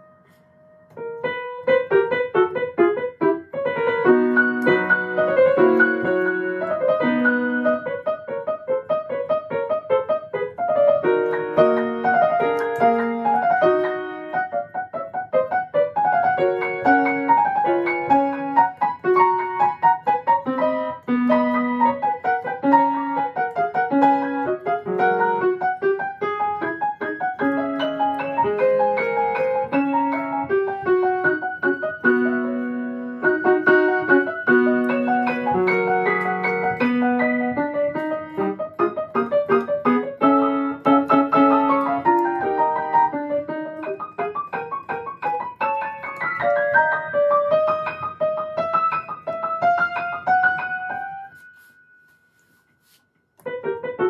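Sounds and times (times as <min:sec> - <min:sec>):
fast piano passagework: 0:00.0 - 0:54.0.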